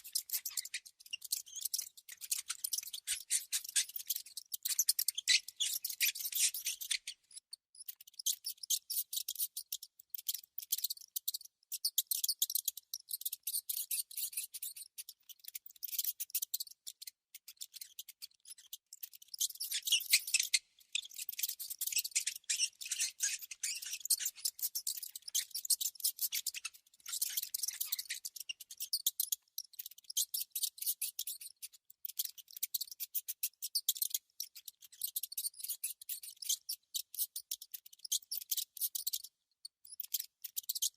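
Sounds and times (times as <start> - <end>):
mouse scratching and clicking: 0.0 - 40.9.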